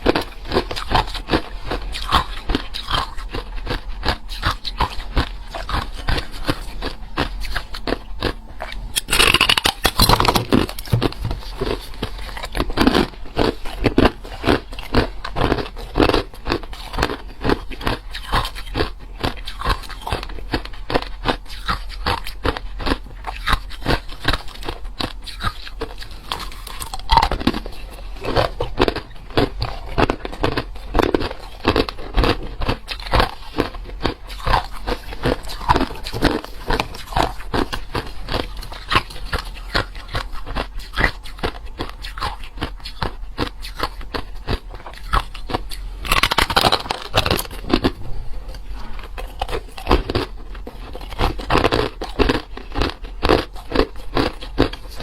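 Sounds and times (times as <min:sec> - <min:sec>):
person chewing crushed ice: 0:00.0 - 0:55.0.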